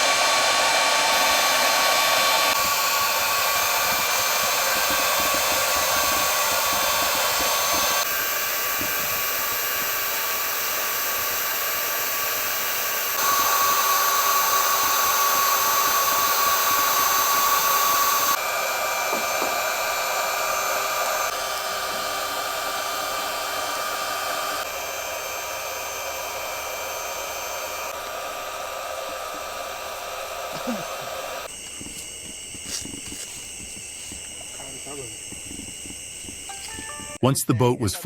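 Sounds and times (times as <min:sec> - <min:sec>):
electric air pump hissing and whining: 0:00.0 - 0:37.2.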